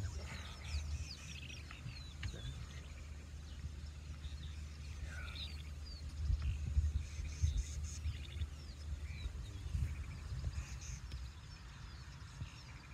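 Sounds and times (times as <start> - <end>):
birds chirping: 0.0 - 12.9
birds whistling downward: 0.0 - 12.9
steady low rumble: 0.0 - 12.9.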